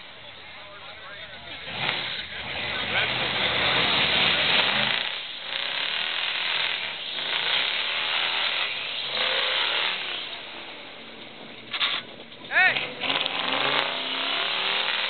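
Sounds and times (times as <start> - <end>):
faint engine revving: 0.7 - 15.0.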